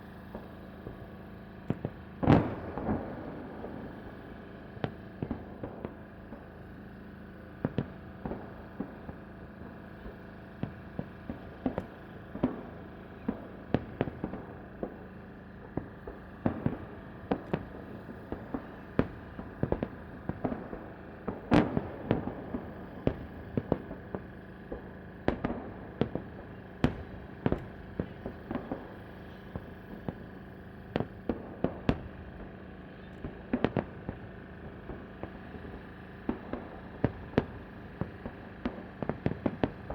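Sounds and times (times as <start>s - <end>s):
fireworks bursts cracking and popping: 0.0s - 39.9s.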